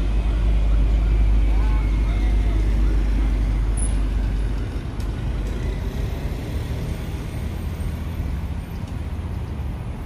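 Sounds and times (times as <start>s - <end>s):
deep vehicle rumble: 0.0s - 10.0s
steady traffic hum: 0.0s - 10.0s.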